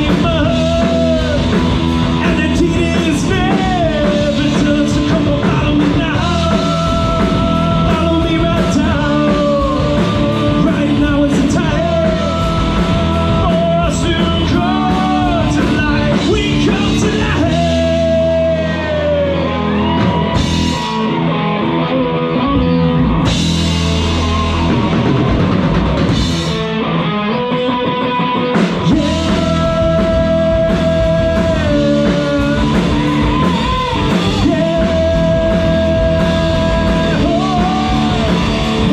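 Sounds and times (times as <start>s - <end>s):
person singing: 0.0s - 21.2s, 27.5s - 38.9s
drums: 0.0s - 38.9s
electric guitar: 0.0s - 38.9s.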